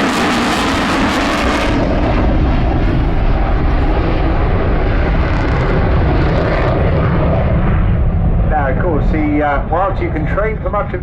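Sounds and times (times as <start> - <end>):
jet flying overhead: 0.0 - 11.0.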